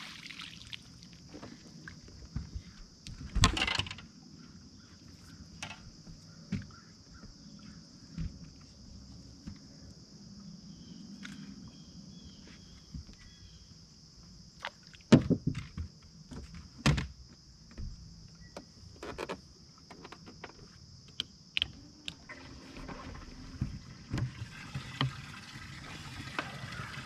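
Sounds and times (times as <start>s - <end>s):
insect chorus: 0.0s - 27.0s.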